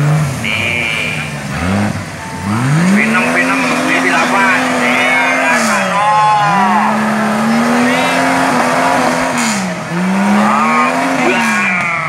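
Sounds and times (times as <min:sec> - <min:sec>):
jeep engine revving hard: 0:00.0 - 0:12.0.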